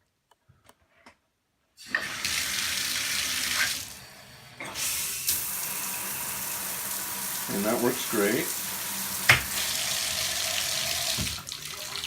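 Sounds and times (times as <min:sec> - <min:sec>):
bathtub tap water running: 0:01.8 - 0:12.0.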